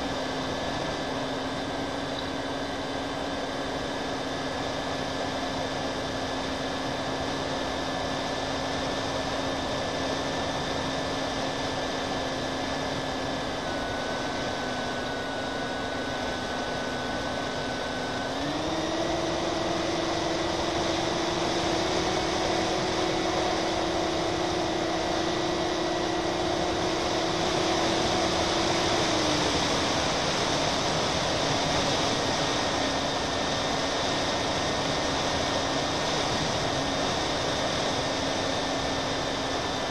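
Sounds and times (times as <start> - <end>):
model airplane motors droning: 0.0 - 39.9.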